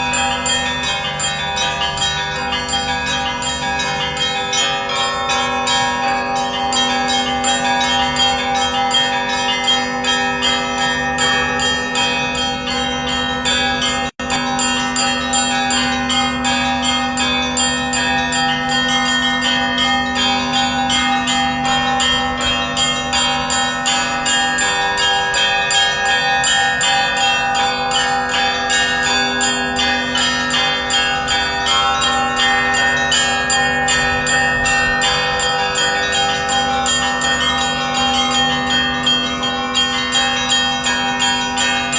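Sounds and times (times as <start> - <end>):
church bells pealing: 0.0 - 41.9.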